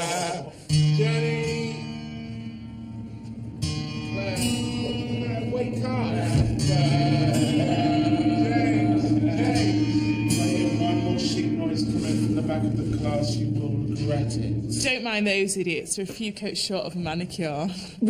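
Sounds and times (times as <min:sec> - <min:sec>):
song with singing voice: 0:00.0 - 0:15.0.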